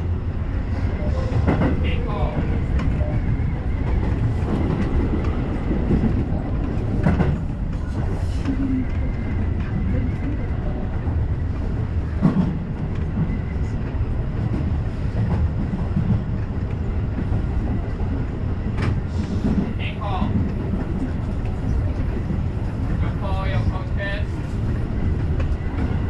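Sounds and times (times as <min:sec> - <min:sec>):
train rumble: 0:00.0 - 0:26.0.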